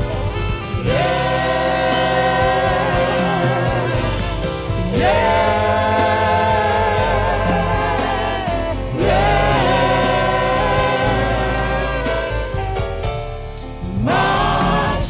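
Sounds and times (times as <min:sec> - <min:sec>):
gospel choir singing: 0:00.0 - 0:15.0
instrumental accompaniment: 0:00.0 - 0:15.0.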